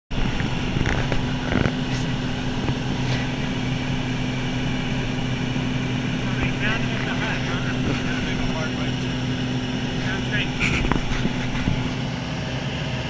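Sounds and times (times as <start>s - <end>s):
propeller airplane droning: 0.1s - 13.0s.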